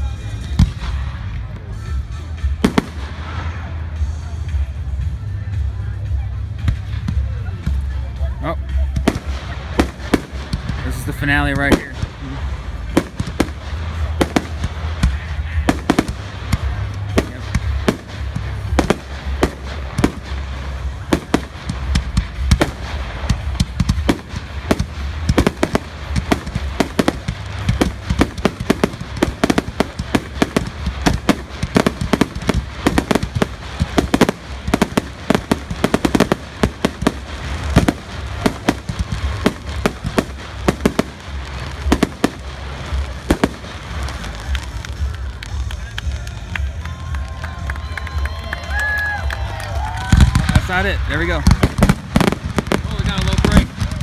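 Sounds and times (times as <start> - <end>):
deep fireworks rumble: 0.0 - 54.0
fireworks bursts: 0.0 - 54.0.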